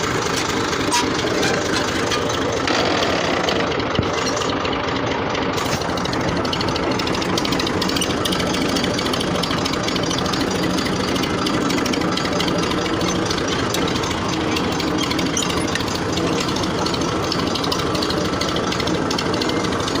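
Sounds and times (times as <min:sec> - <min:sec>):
tractor engine idling: 0:00.0 - 0:20.0.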